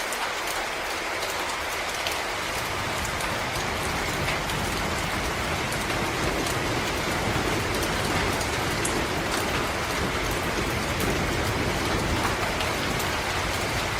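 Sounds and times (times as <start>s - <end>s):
rain on leaves: 0.0s - 13.9s.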